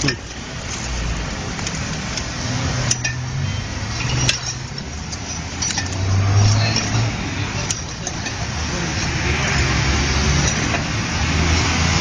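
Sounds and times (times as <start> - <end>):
metal climbing irons clinking: 0.0 - 0.8, 1.6 - 9.7, 10.3 - 11.0.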